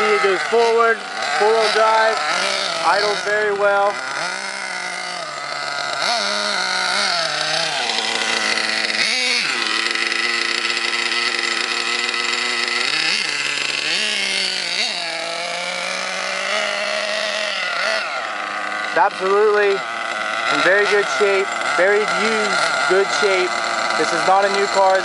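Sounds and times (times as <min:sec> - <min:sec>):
engine throttle blips: 0:00.0 - 0:25.0
model engine idling: 0:00.0 - 0:25.0.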